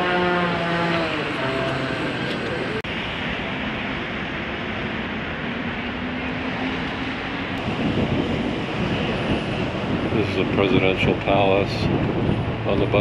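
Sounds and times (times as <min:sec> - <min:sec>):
bus engine: 0:00.0 - 0:13.0
road noise: 0:00.0 - 0:13.0.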